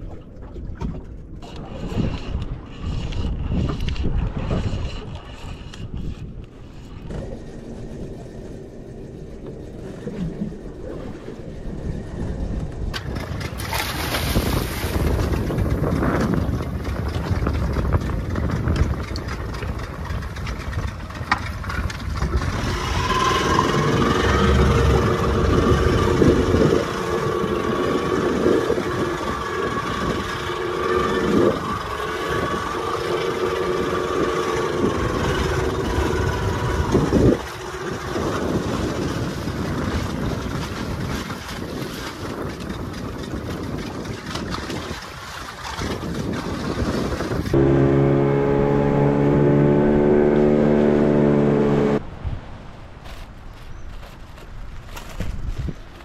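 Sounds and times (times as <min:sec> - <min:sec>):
boat engine running: 0:00.0 - 0:52.0.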